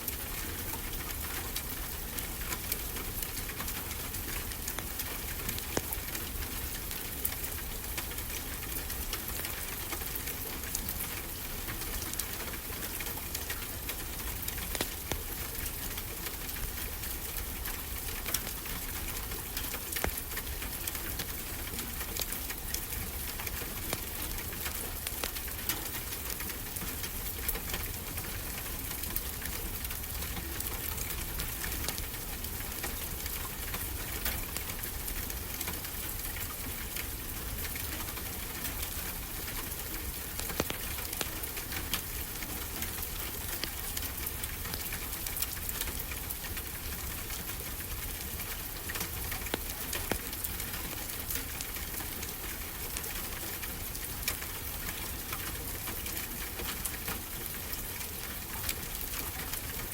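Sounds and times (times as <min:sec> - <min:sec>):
wood fire crackling and popping: 0:00.8 - 0:08.4, 0:12.9 - 0:54.4.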